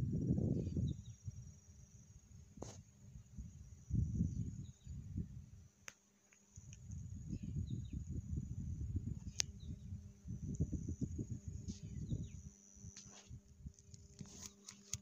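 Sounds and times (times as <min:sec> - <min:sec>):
wind rumbling on microphone: 0:00.0 - 0:05.6, 0:06.6 - 0:14.5.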